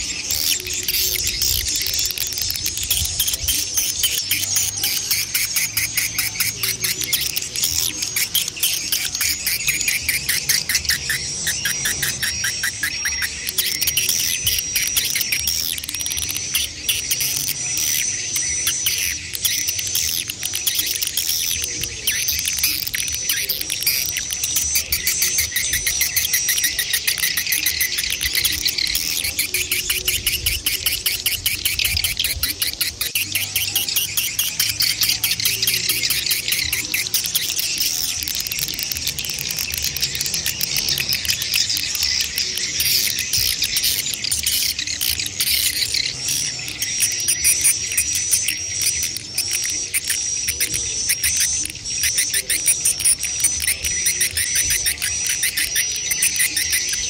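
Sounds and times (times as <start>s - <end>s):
high thin bird trill: 0.0s - 57.0s
swiftlets twittering: 0.0s - 57.0s.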